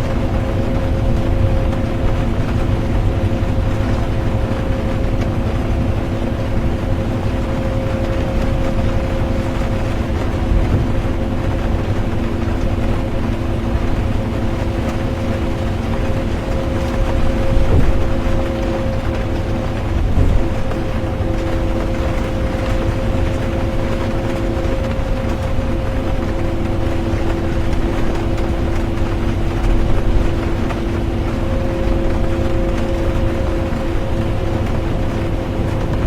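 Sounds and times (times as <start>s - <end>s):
bus engine and road rumble: 0.0s - 36.0s
constant hum: 0.0s - 36.0s
rain noise: 0.0s - 36.0s.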